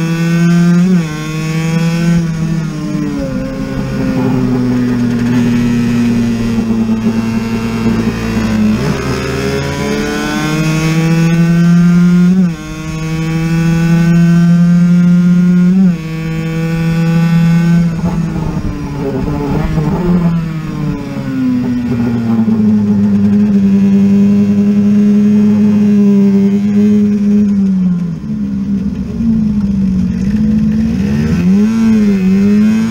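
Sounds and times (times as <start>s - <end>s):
two-stroke engine revving high: 0.0s - 28.1s, 29.2s - 32.9s
another engine: 0.0s - 32.9s.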